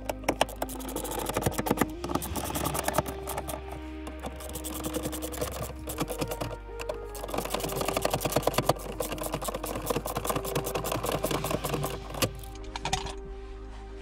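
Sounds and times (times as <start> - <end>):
socket ratchet clicking: 0.0 - 12.6.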